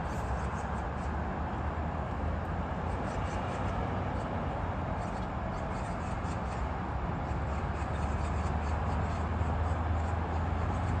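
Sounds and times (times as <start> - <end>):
distant traffic hum: 0.0 - 11.0.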